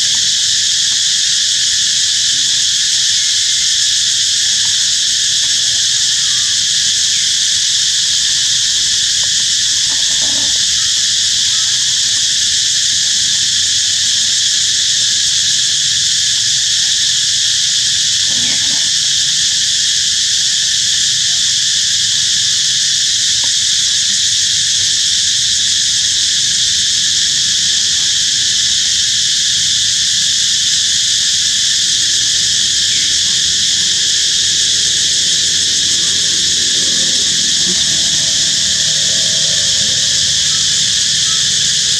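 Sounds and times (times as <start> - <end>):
insect chorus shrilling: 0.0 - 41.9.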